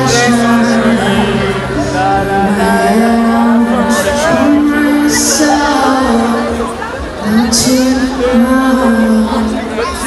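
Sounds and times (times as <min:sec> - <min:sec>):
person singing slow melody: 0:00.0 - 0:10.0.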